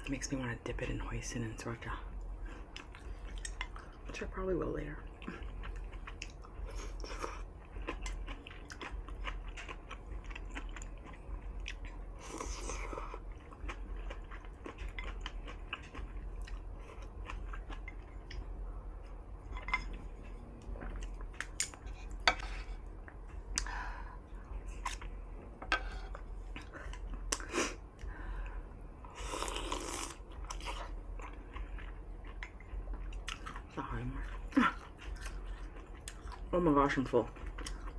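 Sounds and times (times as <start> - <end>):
person chewing food: 2.1 - 4.2, 5.0 - 36.5, 37.2 - 37.9.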